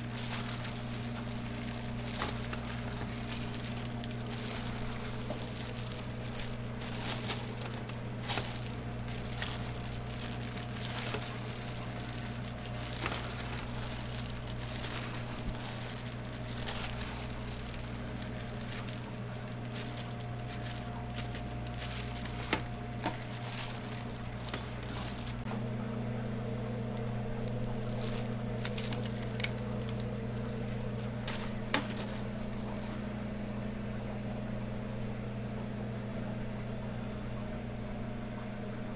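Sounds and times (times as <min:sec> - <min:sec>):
soft squishing: 0:00.0 - 0:33.4
plastic gloves crinkling: 0:00.0 - 0:33.6
machine hum: 0:00.0 - 0:38.9.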